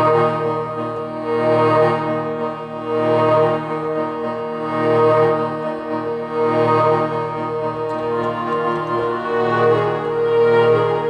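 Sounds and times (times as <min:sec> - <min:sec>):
sustained keyboard chords: 0:00.0 - 0:11.0.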